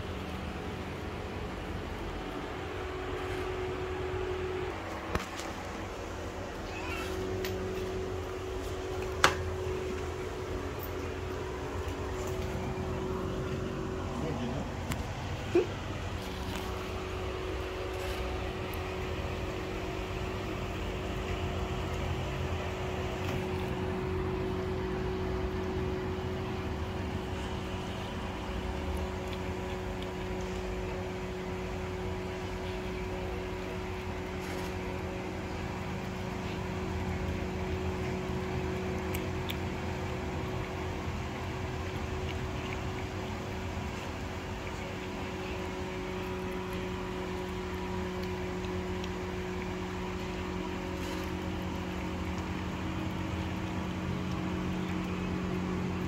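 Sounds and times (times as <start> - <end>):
cat eating from ceramic bowl: 0.0 - 56.0
low machine hum: 0.0 - 56.0.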